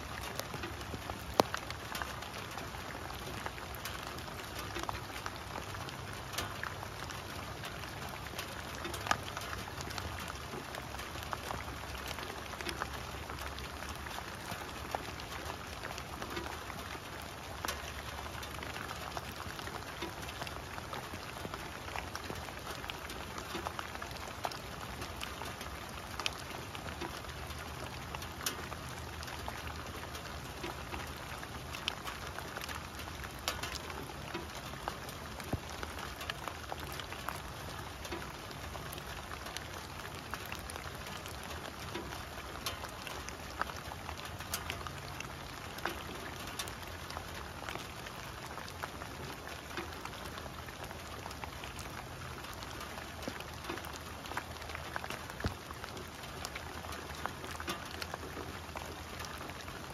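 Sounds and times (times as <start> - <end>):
raindrops ticking on leaves: 0.0 - 59.9
steady rain hiss: 0.0 - 59.9.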